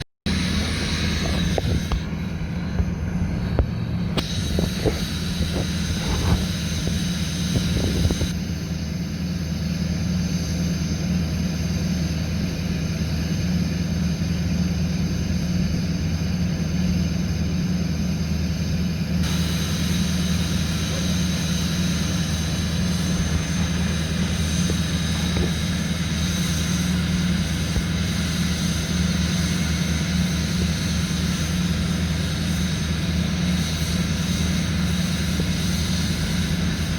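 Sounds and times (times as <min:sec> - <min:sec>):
diesel engine idling: 0:00.3 - 0:36.9.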